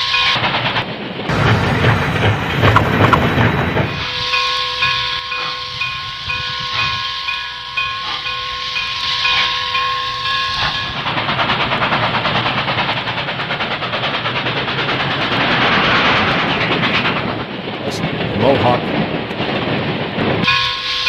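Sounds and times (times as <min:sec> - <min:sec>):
steam locomotive exhaust beat: 0:00.0 - 0:21.0
train rumbling past: 0:00.0 - 0:21.0.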